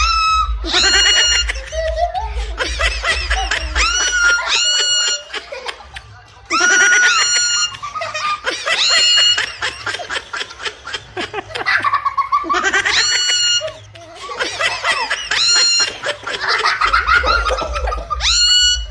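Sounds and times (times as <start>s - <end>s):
parrot cackling like laughter: 0.0s - 2.2s, 2.8s - 5.8s, 6.5s - 11.0s, 11.6s - 18.9s.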